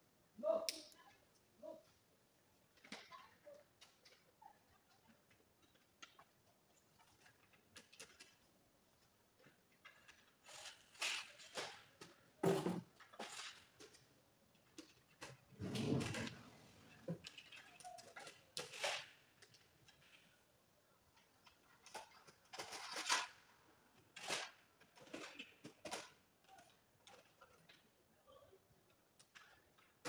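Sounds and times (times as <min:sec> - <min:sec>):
faint clicks and rustles: 0:00.9 - 0:30.0.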